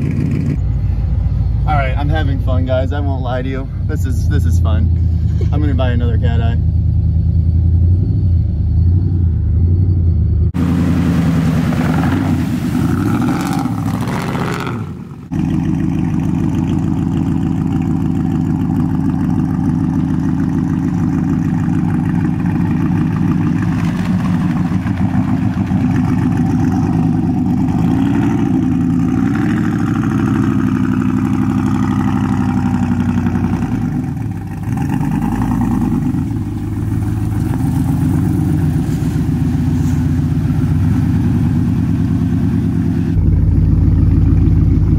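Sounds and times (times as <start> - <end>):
pickup engine revving: 7.0 - 44.9.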